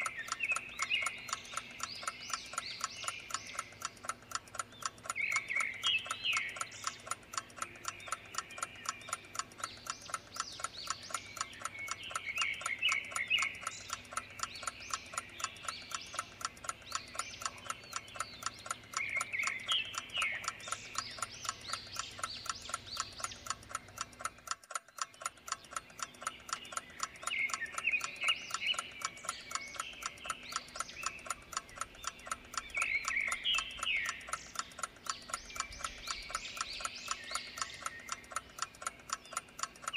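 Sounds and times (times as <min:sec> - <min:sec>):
birds chirping: 0:00.0 - 0:39.9
clock ticking quickly: 0:00.0 - 0:39.9.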